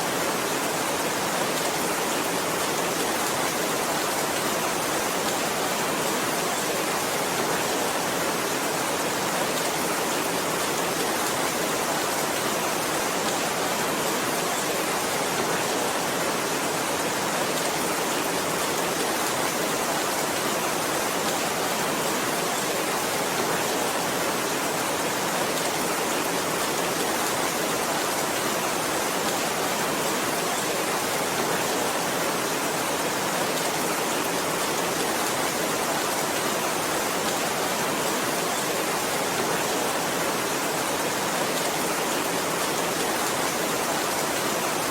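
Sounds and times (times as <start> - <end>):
heavy rain downpour: 0.0 - 44.9.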